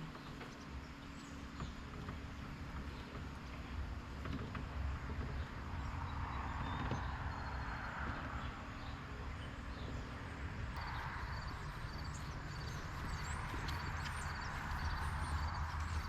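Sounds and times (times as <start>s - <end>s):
birds chirping faintly: 0.0s - 16.0s
kayak wheels rumbling over rough ground: 0.0s - 16.0s.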